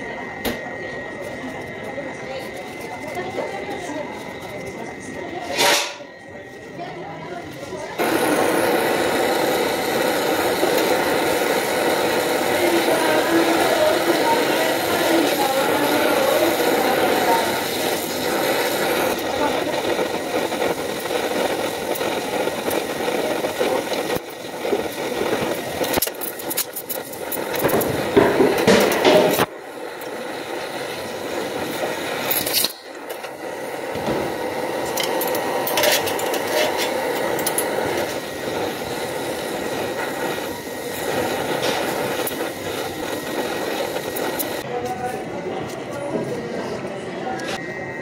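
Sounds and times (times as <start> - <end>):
torch flame hissing: 0.0 - 6.4, 7.0 - 45.2.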